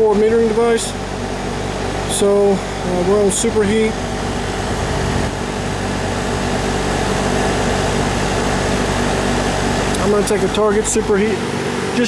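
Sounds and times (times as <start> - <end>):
air conditioner unit running: 0.0 - 12.0
condenser fan humming: 0.0 - 12.0.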